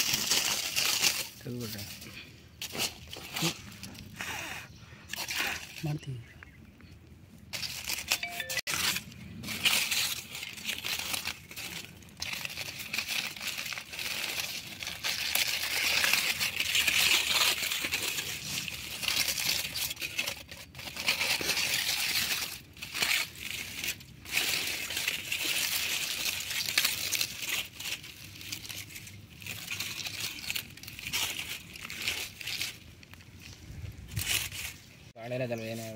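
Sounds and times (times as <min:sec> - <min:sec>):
aluminium foil crinkling: 0:00.0 - 0:06.2, 0:07.5 - 0:35.9.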